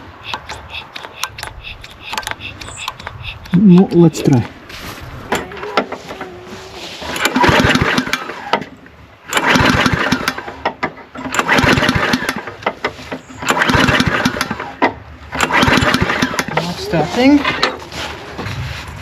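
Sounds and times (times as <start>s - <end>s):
lawnmower engine turning over: 0.2s - 19.0s.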